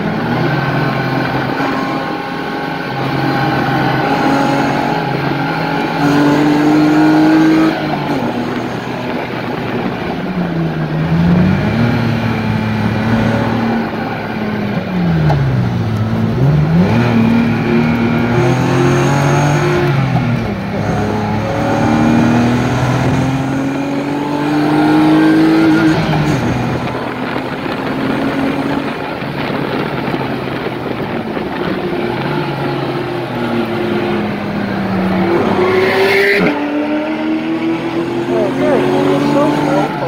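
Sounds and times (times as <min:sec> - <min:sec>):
car engine revving under acceleration: 0:00.0 - 0:40.0.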